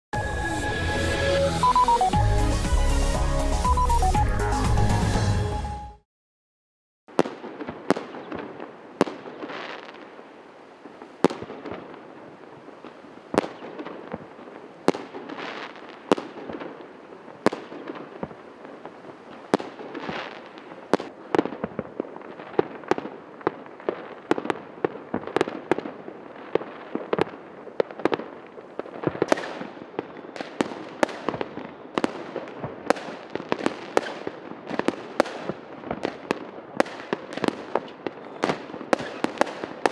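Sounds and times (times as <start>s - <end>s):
firework bangs: 7.1s - 10.2s, 10.9s - 39.9s
distant firecracker pops and crackle: 7.1s - 39.9s.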